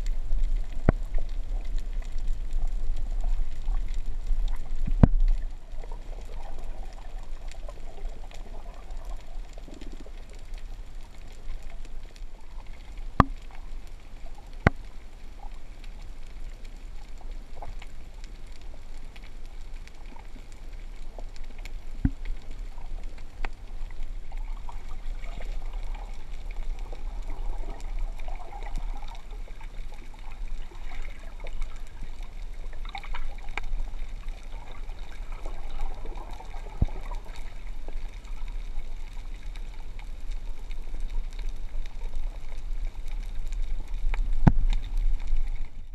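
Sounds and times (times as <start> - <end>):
bubbling gurgles: 0.0 - 15.7, 18.7 - 45.9
low underwater rumble: 0.0 - 45.9.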